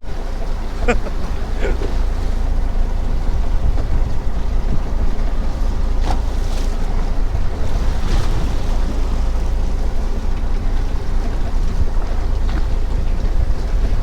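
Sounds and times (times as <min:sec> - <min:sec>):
boat rumble: 0:00.0 - 0:14.0
water splashes: 0:00.0 - 0:14.0
wind on microphone: 0:01.0 - 0:14.0.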